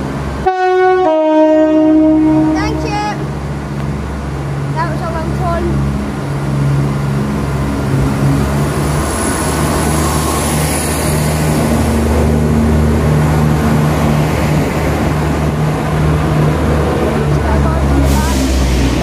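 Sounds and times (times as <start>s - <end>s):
low hum of train traction: 0.0s - 19.0s
train passing by: 0.0s - 19.0s.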